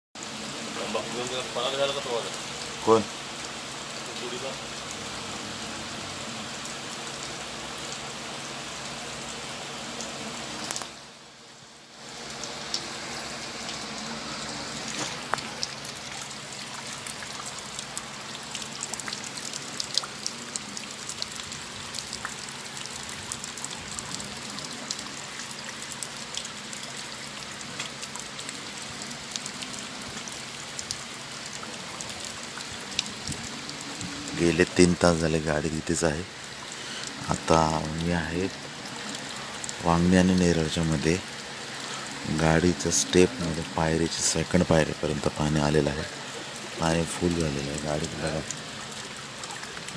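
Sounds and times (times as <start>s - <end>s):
heavy rain falling: 0.2s - 49.9s
raindrops ticking sharply: 0.7s - 11.2s, 11.9s - 49.9s.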